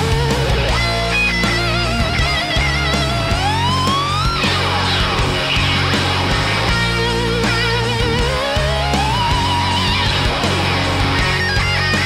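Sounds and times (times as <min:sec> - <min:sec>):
guitar-led rock music: 0:00.0 - 0:12.0.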